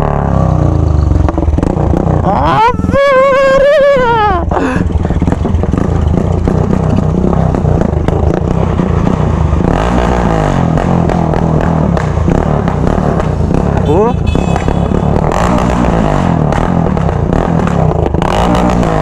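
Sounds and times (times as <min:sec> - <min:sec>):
loud motorcycle engines revving: 0:00.0 - 0:19.0.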